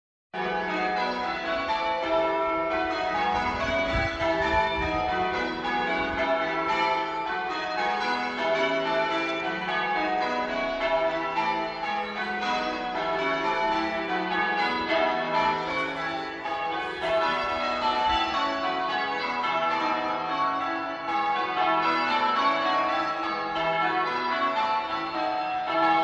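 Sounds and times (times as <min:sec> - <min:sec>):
church bells ringing: 0:00.4 - 0:26.0.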